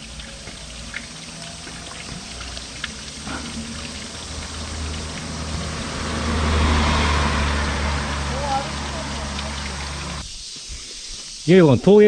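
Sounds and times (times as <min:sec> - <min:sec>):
vehicle engine approaching: 0:00.0 - 0:10.2
running water: 0:00.0 - 0:10.5.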